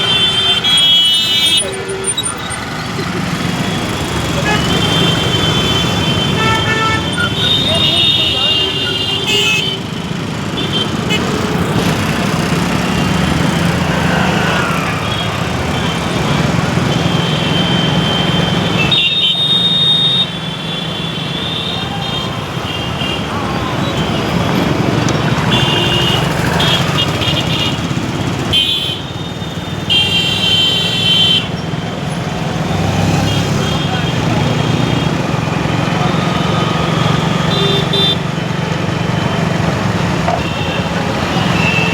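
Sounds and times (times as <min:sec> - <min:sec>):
car horns honking: 0:00.0 - 0:41.9
motorcycle engine and road noise: 0:00.0 - 0:41.9.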